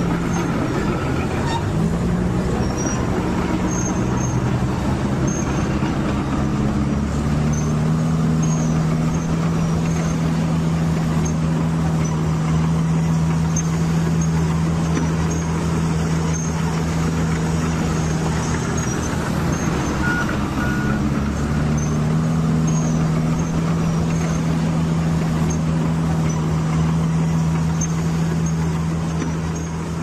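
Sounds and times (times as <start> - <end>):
large engine droning: 0.0 - 30.0.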